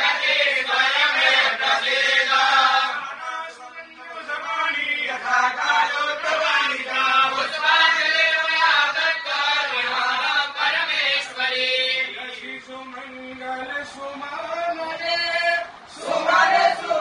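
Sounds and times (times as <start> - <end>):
priests chanting together: 0.0 - 12.6, 14.9 - 17.0.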